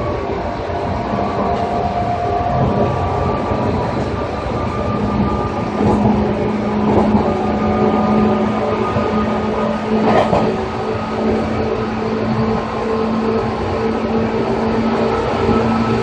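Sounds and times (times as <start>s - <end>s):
traction motors whining: 0.0s - 16.0s
train wheel and rail noise: 0.0s - 16.0s.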